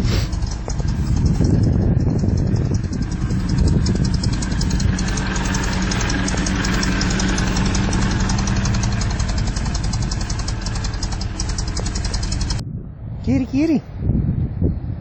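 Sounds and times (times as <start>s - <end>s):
forklift engine idling: 0.0s - 12.6s.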